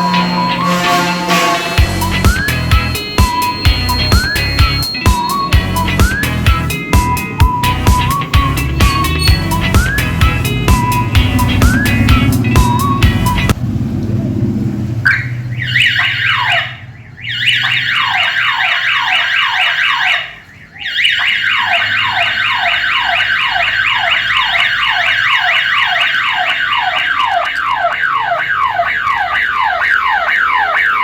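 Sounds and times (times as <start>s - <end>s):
burglar alarm siren whooping: 0.0s - 13.6s, 15.1s - 31.0s.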